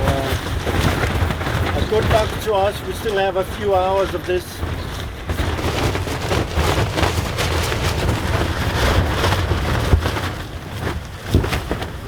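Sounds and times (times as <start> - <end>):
tent fabric flapping: 0.0 - 12.0
wind rumble on microphone: 0.0 - 12.0.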